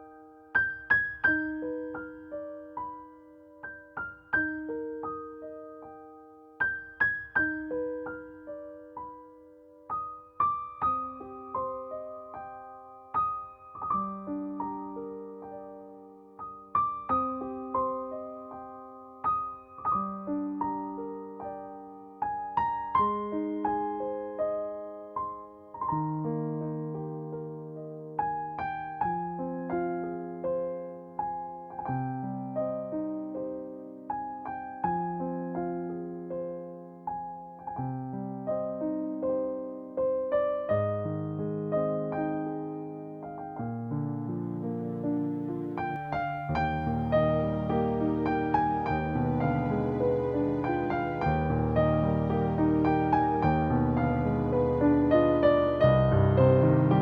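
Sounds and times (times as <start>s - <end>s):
slow solo piano melody: 0.0s - 57.0s.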